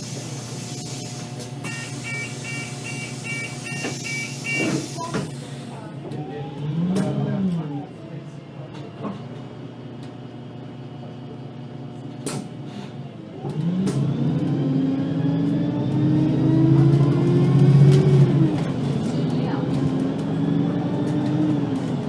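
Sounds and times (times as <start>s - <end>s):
bus engine accelerating: 0.0s - 22.0s.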